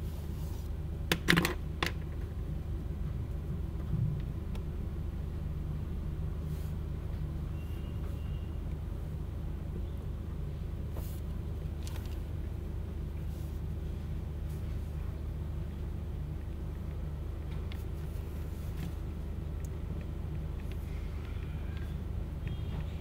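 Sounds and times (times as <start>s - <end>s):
low hum and rumble: 0.0s - 23.0s.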